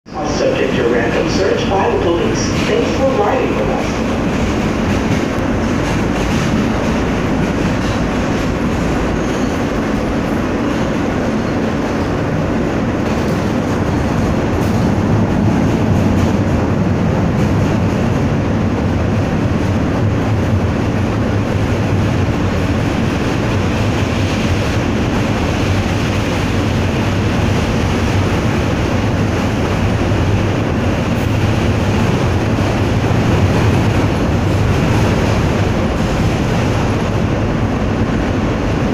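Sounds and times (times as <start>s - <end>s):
train wheels rumbling on rails: 0.1s - 38.9s.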